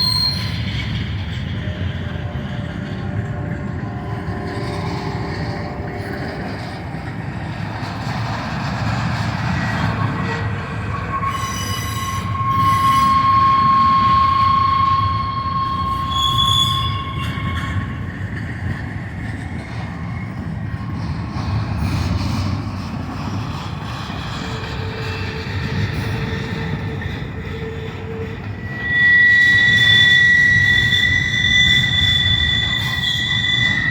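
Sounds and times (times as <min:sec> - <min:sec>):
high wheel squeal: 0:00.0 - 0:18.7, 0:23.4 - 0:33.9
train wheels rumbling on rail: 0:00.0 - 0:33.9.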